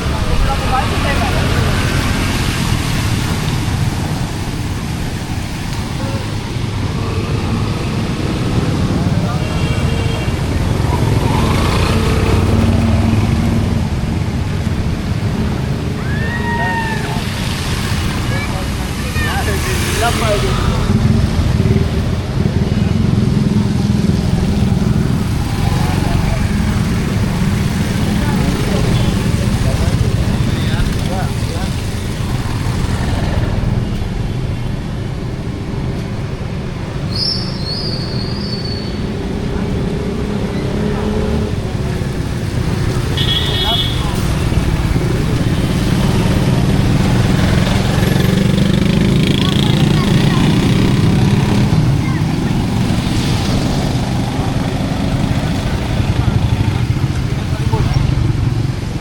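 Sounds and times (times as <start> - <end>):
busy street noise: 0.0 - 59.0
vehicle engine rumbling: 0.0 - 59.0.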